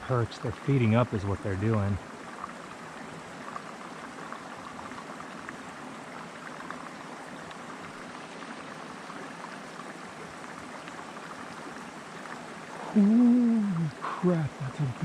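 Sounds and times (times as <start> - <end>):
river water trickling: 0.0 - 15.0.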